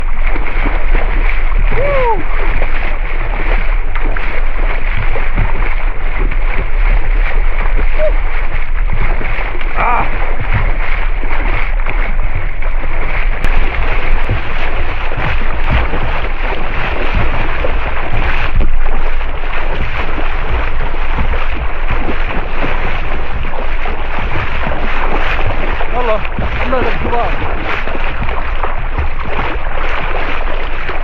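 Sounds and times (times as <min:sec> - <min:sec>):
sea water rushing around boat: 0:00.0 - 0:31.0
wind buffeting microphone: 0:00.0 - 0:31.0.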